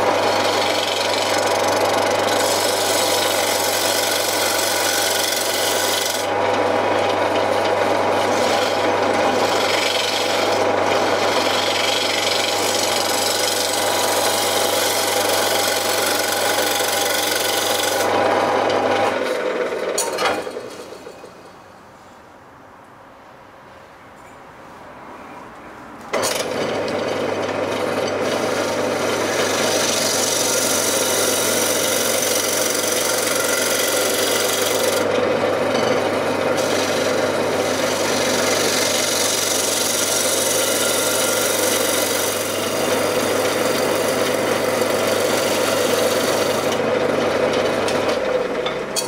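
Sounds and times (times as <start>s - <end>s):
tool rasping on spinning wood: 0.0s - 20.0s, 26.2s - 49.0s
lathe motor hum: 0.0s - 21.1s, 26.1s - 49.0s.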